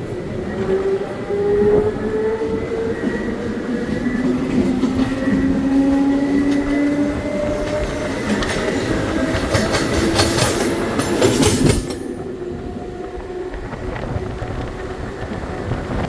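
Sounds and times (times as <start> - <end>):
electric train whine: 0.0 - 16.0
train wheels clattering on rails: 2.7 - 16.0.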